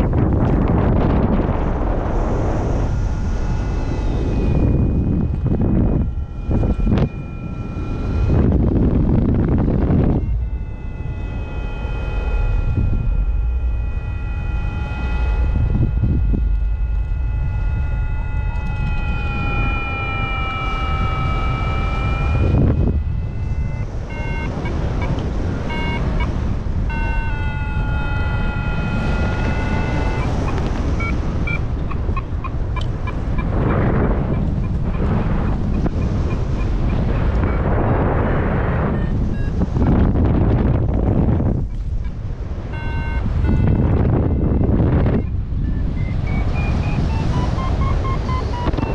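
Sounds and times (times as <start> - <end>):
variometer steady tone: 0.0 - 48.9
wind on microphone: 0.0 - 48.9
variometer rapid beeps: 2.6 - 37.8, 38.4 - 48.9.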